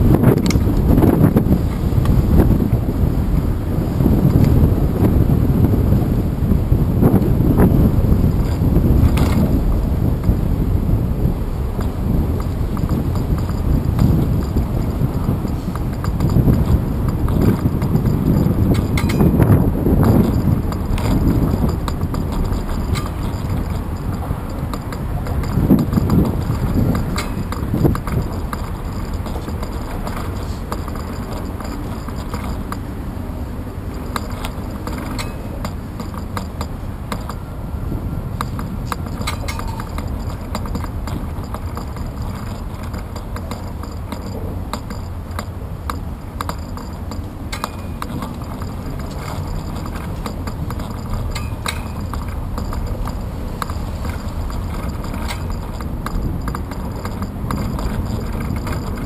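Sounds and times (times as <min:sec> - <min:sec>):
bicycle tyre rumble: 0:00.0 - 0:59.0
bike clicks and rattles: 0:00.0 - 0:59.0
wind: 0:00.0 - 0:59.0.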